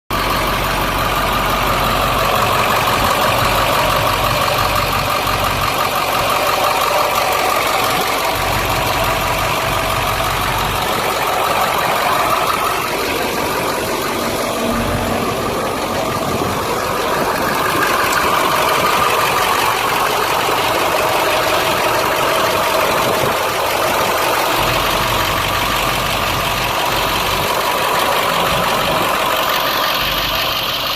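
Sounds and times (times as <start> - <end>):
truck diesel engine idling: 0.1 - 30.9.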